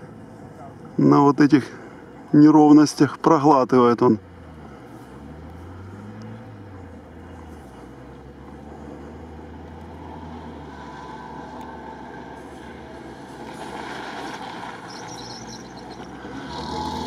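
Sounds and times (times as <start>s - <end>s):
car engine driving off-road: 0.0s - 17.0s.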